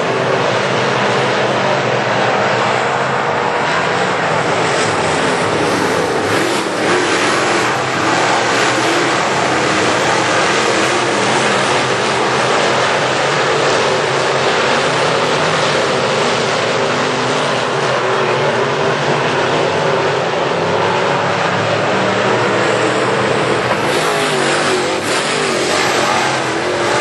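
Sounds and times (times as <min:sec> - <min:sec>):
race car engines droning: 0:00.0 - 0:27.0.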